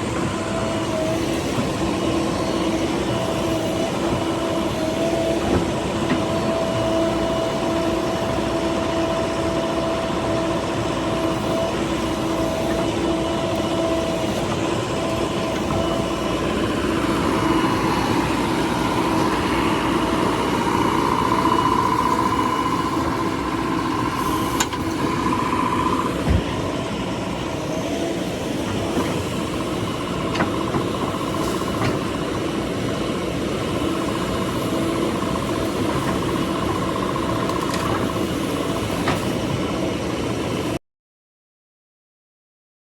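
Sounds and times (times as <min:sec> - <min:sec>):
diesel engine running: 0:00.0 - 0:40.5
high engine whine: 0:00.0 - 0:40.8.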